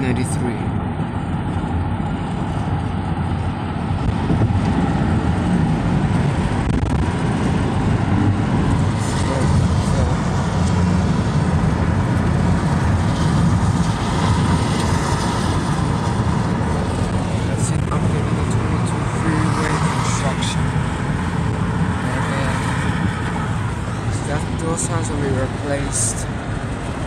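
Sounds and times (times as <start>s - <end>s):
car road noise from inside: 0.0s - 27.0s.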